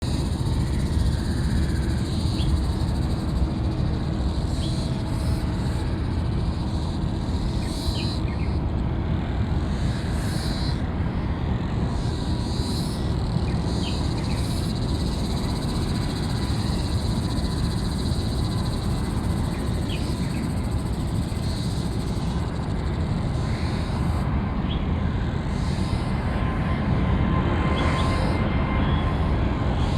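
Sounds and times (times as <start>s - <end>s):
jet engines rumbling: 0.0s - 29.9s.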